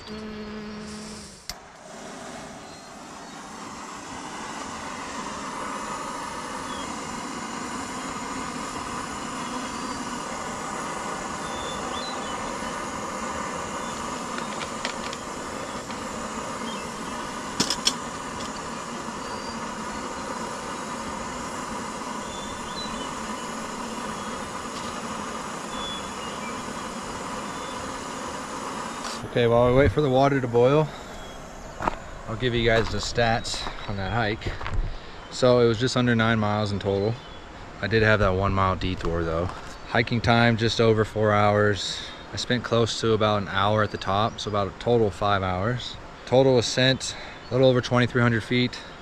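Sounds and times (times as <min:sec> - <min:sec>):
camp stove burning: 0:00.0 - 0:49.0.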